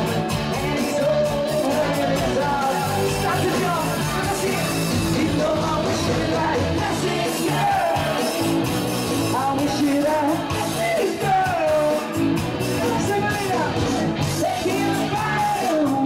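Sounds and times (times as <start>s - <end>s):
man singing into microphone: 0.0s - 8.5s, 9.3s - 12.2s, 12.8s - 16.0s
live band music through speakers: 0.0s - 16.0s
crowd yelling: 1.4s - 16.0s.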